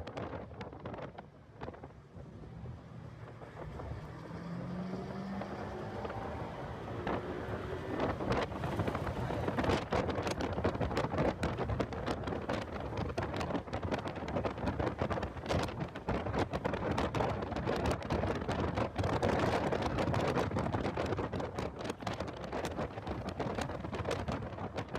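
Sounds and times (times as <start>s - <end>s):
wind buffeting microphone: 0.0s - 24.9s
faint car engine: 1.6s - 24.9s.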